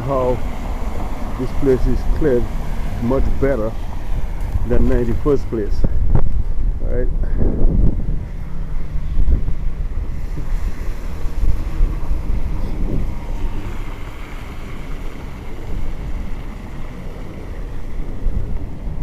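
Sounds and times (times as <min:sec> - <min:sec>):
street traffic: 0:00.0 - 0:19.0
vehicle passing: 0:00.0 - 0:19.0
wind buffeting microphone: 0:00.0 - 0:19.0.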